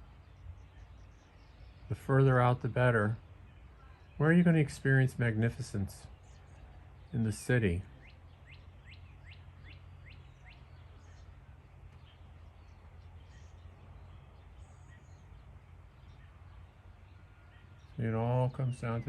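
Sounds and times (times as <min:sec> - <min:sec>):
faint bird chirps: 0:00.0 - 0:19.0
songbird singing: 0:00.0 - 0:19.0
steady low hum: 0:00.0 - 0:19.0.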